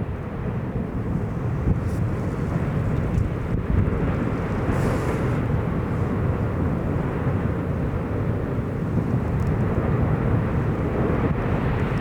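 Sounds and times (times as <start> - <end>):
volcano rumbling: 0.0 - 12.0.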